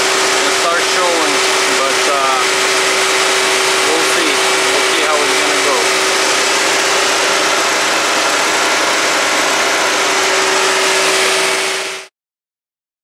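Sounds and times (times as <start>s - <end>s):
car engine idling with whine: 0.0s - 12.1s.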